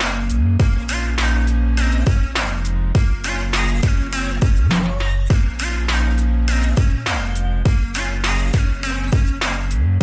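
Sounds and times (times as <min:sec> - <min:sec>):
electronic music with heavy drum beat: 0:00.0 - 0:10.0.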